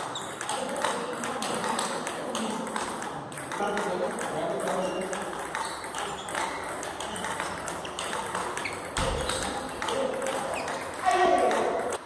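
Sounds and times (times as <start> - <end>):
table tennis ball on paddles: 0.0 - 12.0
ball bouncing on table: 0.1 - 12.0.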